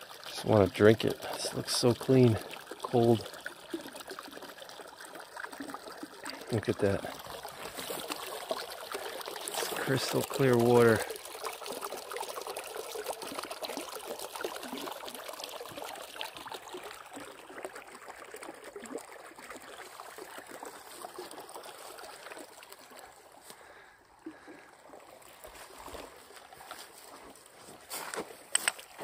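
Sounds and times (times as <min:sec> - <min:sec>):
stream trickling and babbling: 0:00.0 - 0:29.0.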